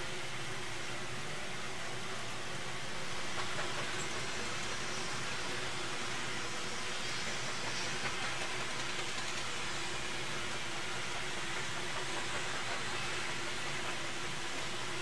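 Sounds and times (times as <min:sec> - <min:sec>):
machine hiss: 0:02.0 - 0:15.0.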